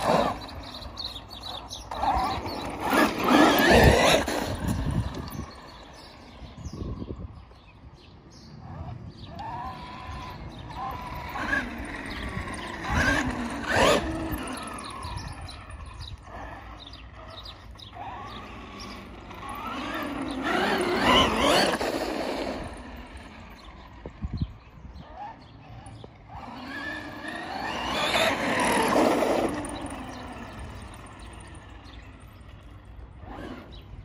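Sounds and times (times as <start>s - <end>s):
rc truck motor whine: 0.0s - 34.0s.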